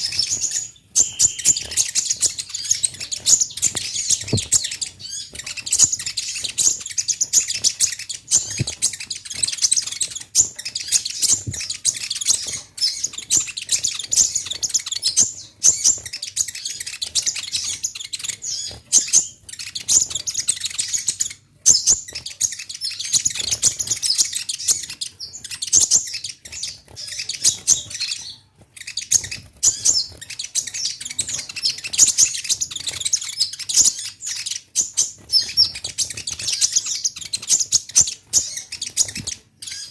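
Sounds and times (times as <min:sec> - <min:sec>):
sunbird singing high chirps: 0:00.0 - 0:39.9.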